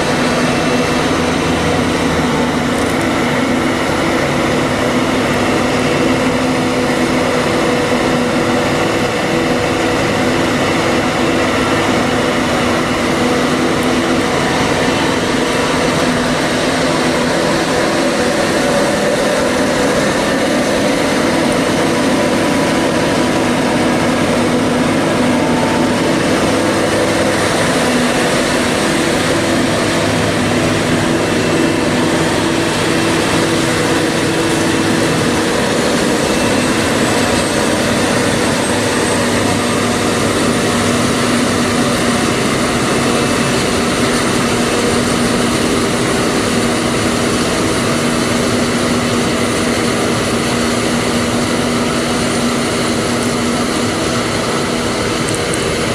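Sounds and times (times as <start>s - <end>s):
diesel engine drone: 0.0s - 55.9s
high rising whine: 0.0s - 55.9s.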